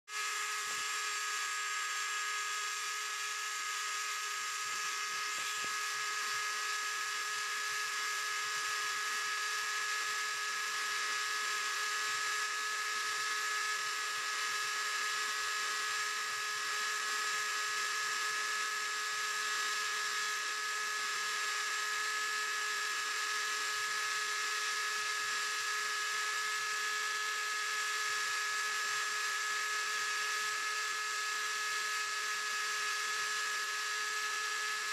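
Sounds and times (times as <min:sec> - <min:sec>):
cnc machine motor whine: 0:00.1 - 0:34.9.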